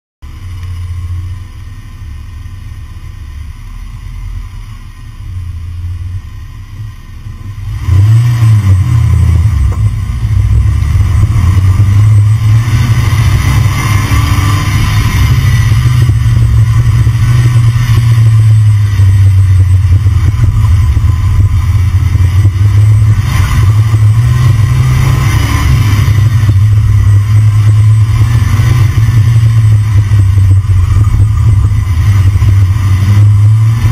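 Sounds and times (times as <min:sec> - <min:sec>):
car driving rumble: 0:00.2 - 0:33.9.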